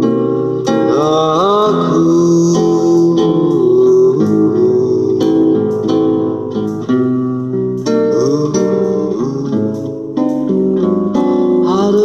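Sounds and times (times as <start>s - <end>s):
guitar playing ballad: 0.0s - 12.0s.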